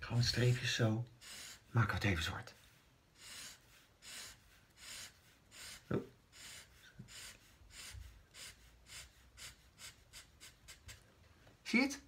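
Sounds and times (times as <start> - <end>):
marker scratching on paper: 0.1 - 11.1.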